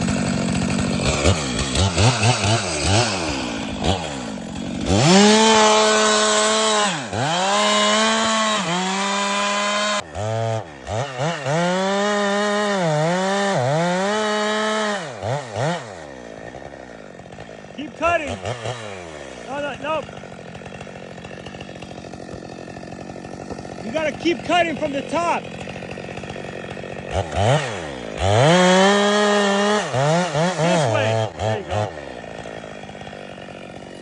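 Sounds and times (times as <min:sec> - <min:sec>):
chainsaw cutting tree trunk: 0:00.0 - 0:34.0.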